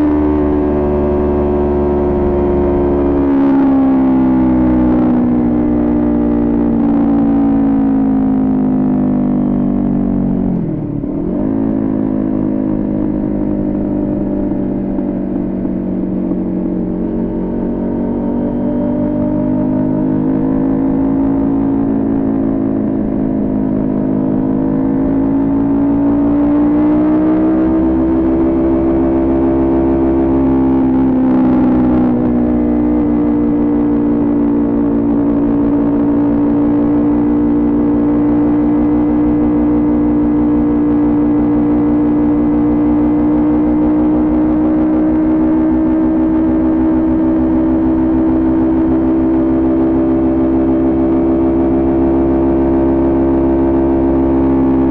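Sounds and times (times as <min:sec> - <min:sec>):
motorcycle engine at high revs: 0:00.0 - 0:54.9.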